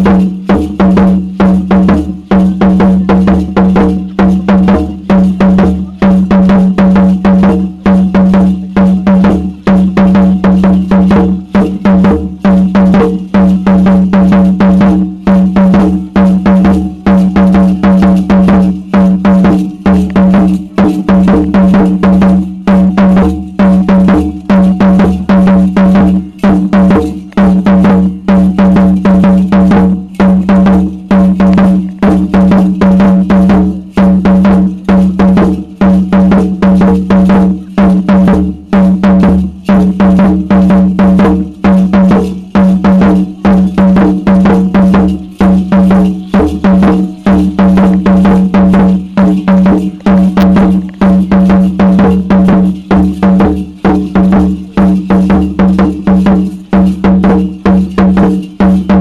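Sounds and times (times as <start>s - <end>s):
drum beaten in fast rhythm: 0.0s - 59.0s.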